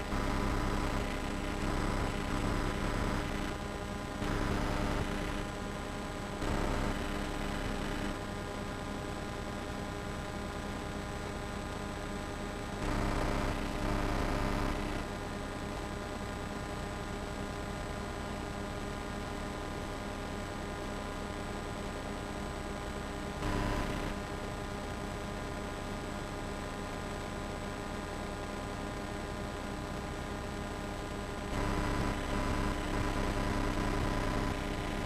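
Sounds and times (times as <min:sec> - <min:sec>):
electrical hum and hiss: 0:00.0 - 0:35.0.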